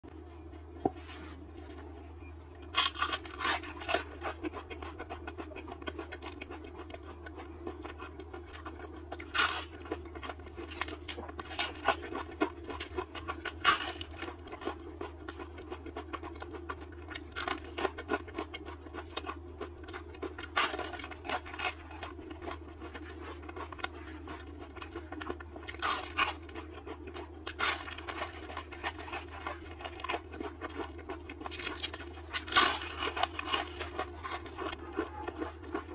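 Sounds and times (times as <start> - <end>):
crunching and chewing: 0.1 - 35.9.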